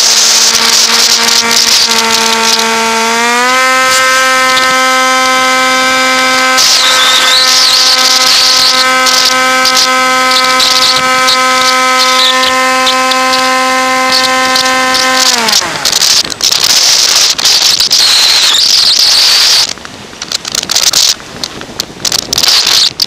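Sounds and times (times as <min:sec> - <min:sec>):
electric motor and propeller whining: 0:00.0 - 0:23.0.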